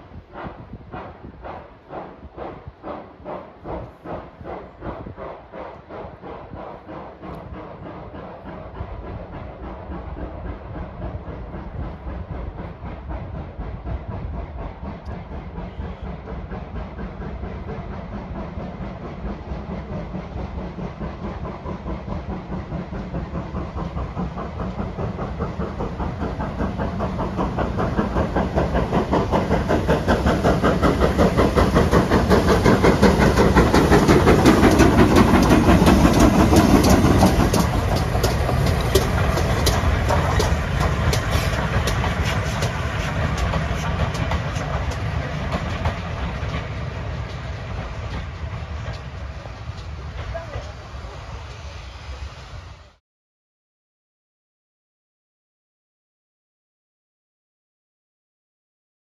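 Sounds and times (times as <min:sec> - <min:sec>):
steam locomotive exhaust chuffs: 0:00.0 - 0:53.0.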